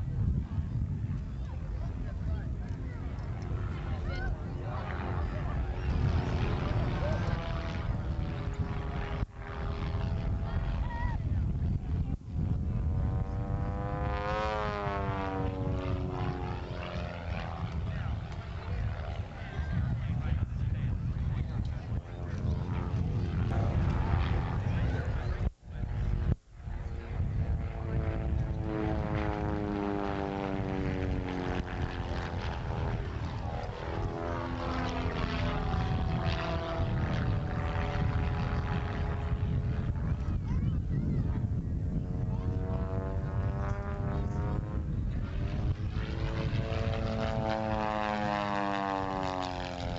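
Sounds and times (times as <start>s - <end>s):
airplane engine drone: 0.0s - 49.9s
heavy low rumble: 0.0s - 49.9s.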